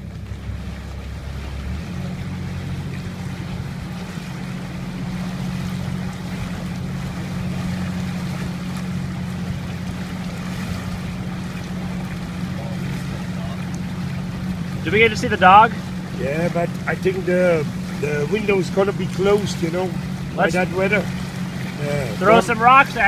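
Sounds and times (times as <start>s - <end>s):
boat motor running: 0.0s - 23.0s
water noise: 0.0s - 23.0s.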